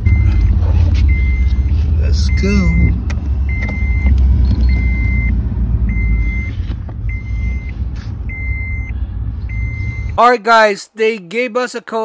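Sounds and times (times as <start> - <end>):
car warning chime beeping: 0.0 - 10.2
low rumble: 0.0 - 10.2.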